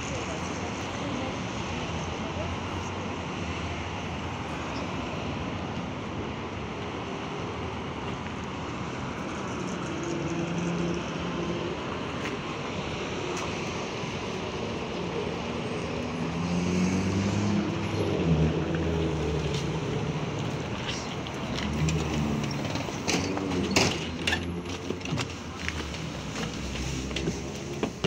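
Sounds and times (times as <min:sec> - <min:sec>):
street traffic: 0:00.0 - 0:28.0
trolleybus humming: 0:00.0 - 0:28.0.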